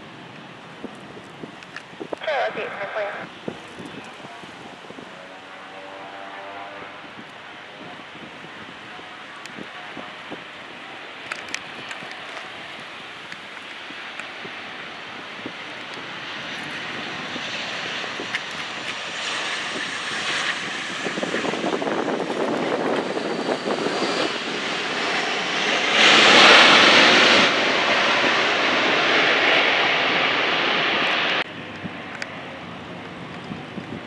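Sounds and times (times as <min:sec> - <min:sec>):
airplane engine passing: 0:00.0 - 0:34.0.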